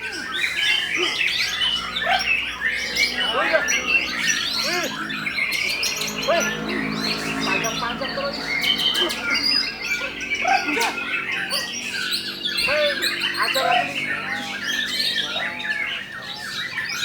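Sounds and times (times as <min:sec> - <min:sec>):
birds singing whistles and trills: 0:00.0 - 0:17.0
steady low hum: 0:01.5 - 0:15.6.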